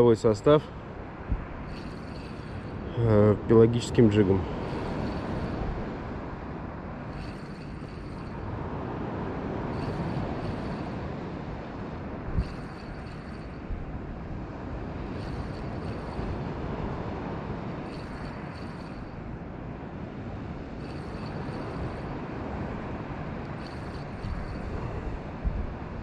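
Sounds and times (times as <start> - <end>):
sea and wind rushing: 0.0 - 26.0
fishing reel whirring: 1.5 - 3.0, 3.9 - 8.8, 9.6 - 19.5, 20.5 - 26.0.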